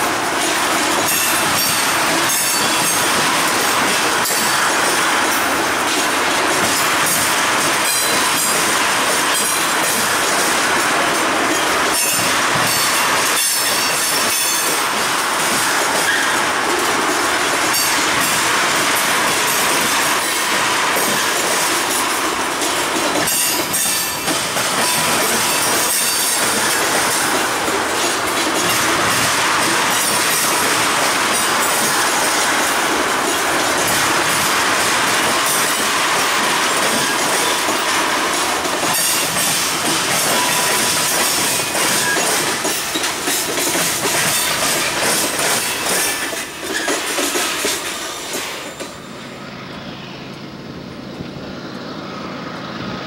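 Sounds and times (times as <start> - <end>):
wheels clicking over rail joints: 0.0 - 49.0
train wheels on rails: 0.0 - 53.0.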